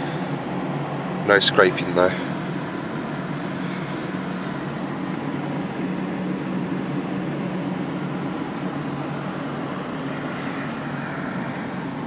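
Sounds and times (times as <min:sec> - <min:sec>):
car engine idling: 0:00.0 - 0:12.0
heater fan hissing: 0:00.0 - 0:12.0.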